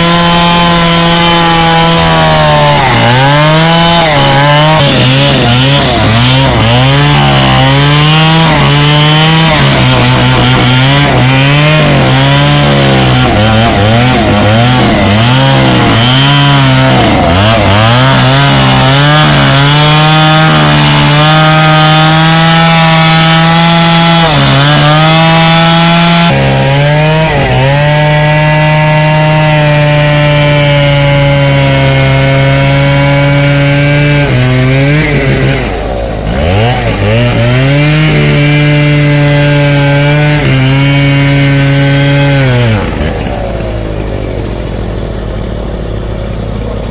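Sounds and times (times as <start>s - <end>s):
chainsaw cutting tree: 0.0s - 46.9s.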